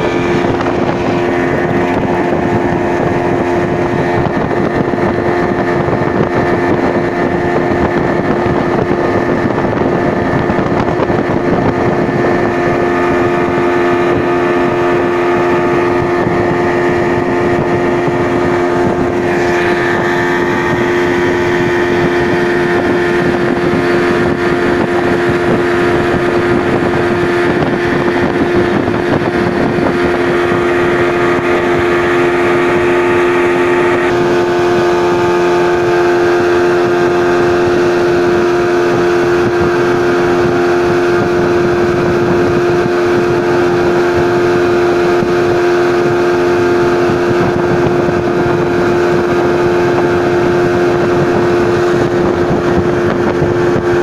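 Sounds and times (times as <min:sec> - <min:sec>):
outboard motor running: 0:00.0 - 0:54.0
water rushing along hull: 0:00.0 - 0:54.0.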